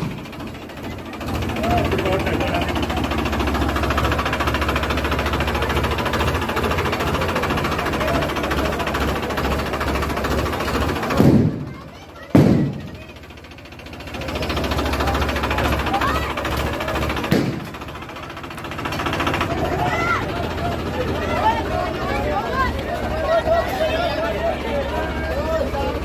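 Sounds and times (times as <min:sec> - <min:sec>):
people talking: 0:00.0 - 0:26.0
tractor diesel engine running: 0:00.0 - 0:26.0.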